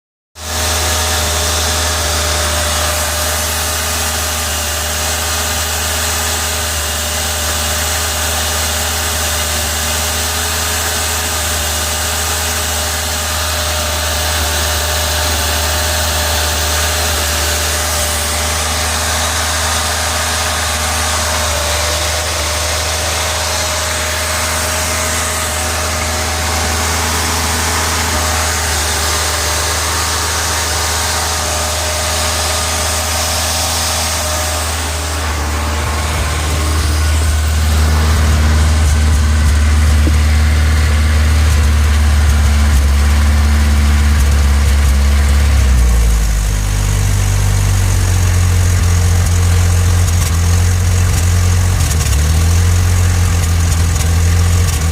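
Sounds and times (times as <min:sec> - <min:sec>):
car engine idling roughly: 0:00.4 - 0:54.9.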